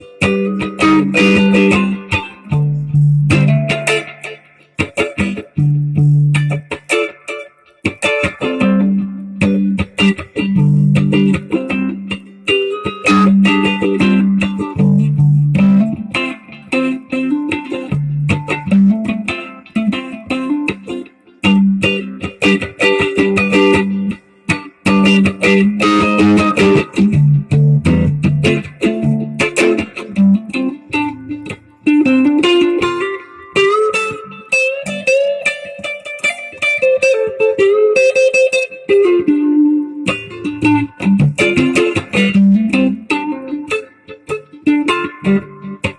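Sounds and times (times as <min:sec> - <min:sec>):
electric guitar with delay: 0:00.0 - 0:45.9.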